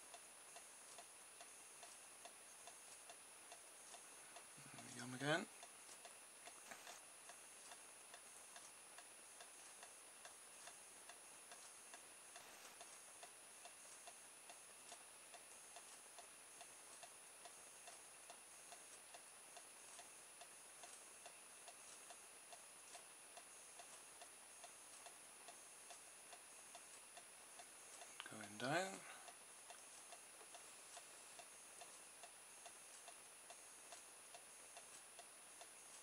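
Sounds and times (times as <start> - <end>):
faint high-pitched whine: 0.0 - 36.0
faint regular ticking: 0.0 - 36.0.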